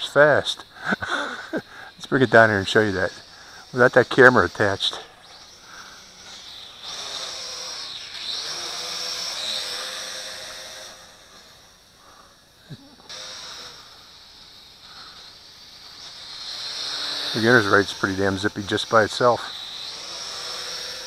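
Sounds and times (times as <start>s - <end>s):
toy drone propellers buzzing: 0.0s - 21.0s.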